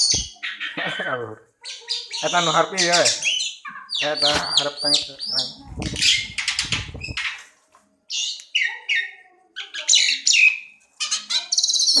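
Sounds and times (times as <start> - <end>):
songbird singing: 1.6 - 7.5, 8.1 - 12.0.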